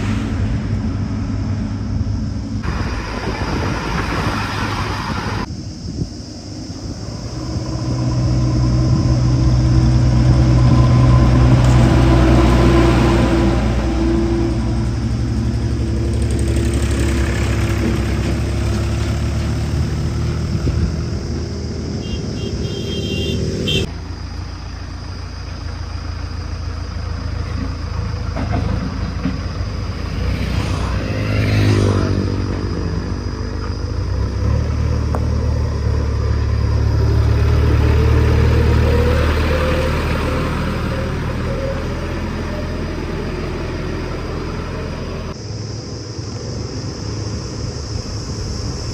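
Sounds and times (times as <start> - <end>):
diesel engine revving: 6.6 - 24.6, 25.3 - 48.9.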